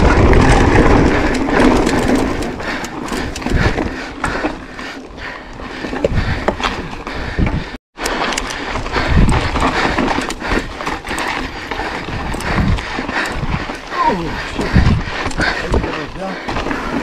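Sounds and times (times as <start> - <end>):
bike rattling: 0.0 - 17.0
bike tyres rolling on rock: 0.0 - 17.0.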